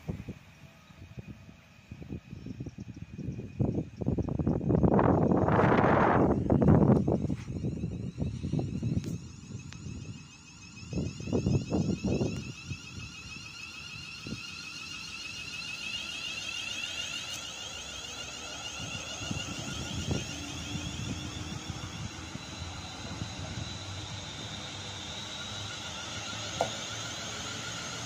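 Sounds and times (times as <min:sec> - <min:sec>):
electric train motors whining: 0:00.0 - 0:28.0.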